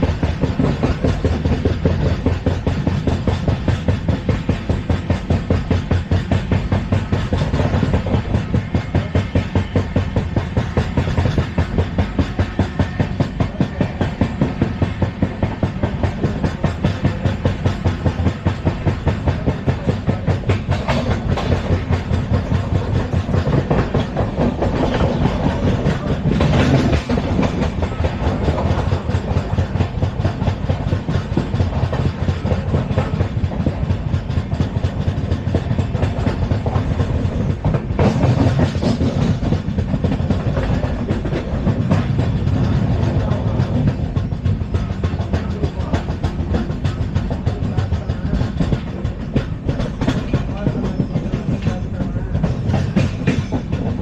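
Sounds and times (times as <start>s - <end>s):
train wheel and rail rumble: 0.0s - 54.0s
train wheel clacks: 0.0s - 54.0s.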